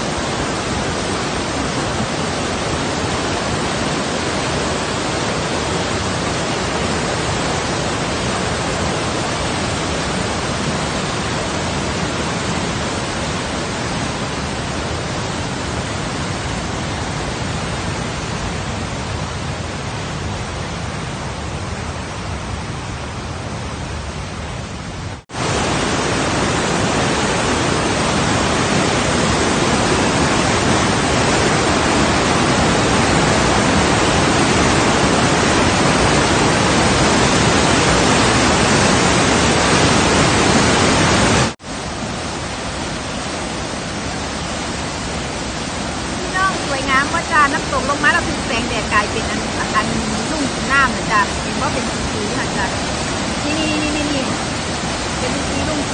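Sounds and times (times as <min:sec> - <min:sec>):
river rushing over waterfall: 0:00.0 - 0:55.9.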